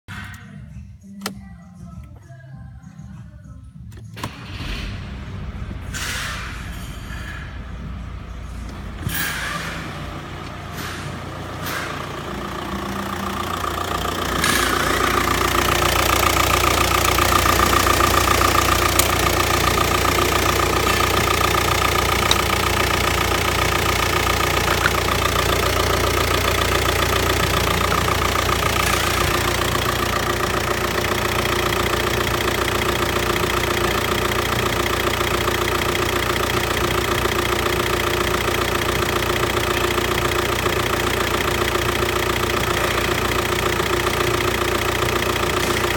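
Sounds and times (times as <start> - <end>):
engine knocks: 4.0 - 45.9
diesel engine idling: 4.1 - 45.9.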